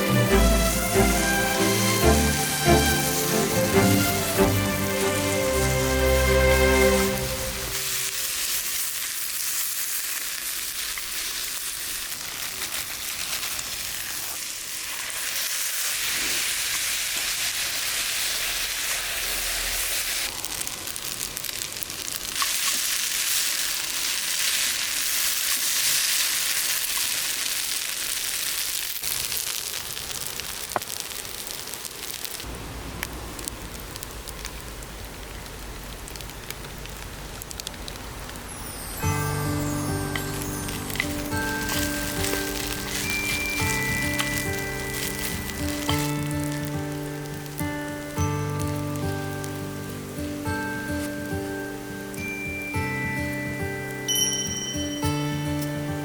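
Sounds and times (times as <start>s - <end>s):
food sizzling: 0.0s - 56.0s.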